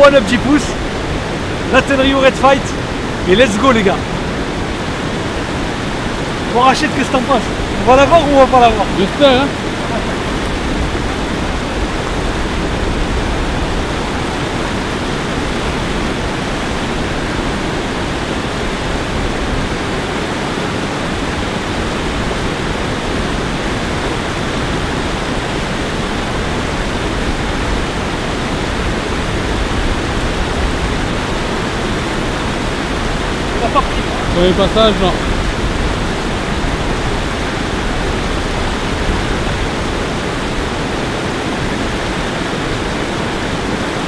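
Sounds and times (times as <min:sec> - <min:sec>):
water rushing over weir: 0:00.0 - 0:44.0.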